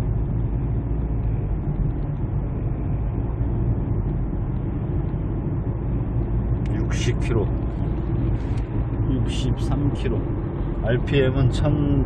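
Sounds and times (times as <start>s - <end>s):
engine and tyre rumble in car cabin: 0.0s - 12.0s.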